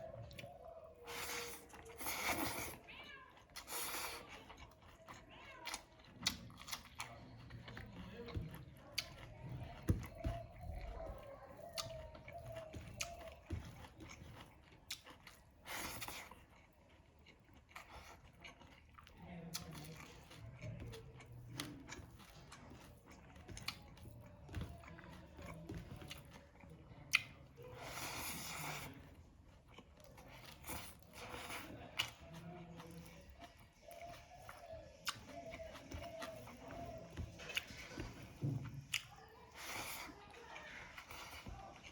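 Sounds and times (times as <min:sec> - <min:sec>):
person chewing and crunching: 0:00.0 - 0:41.9.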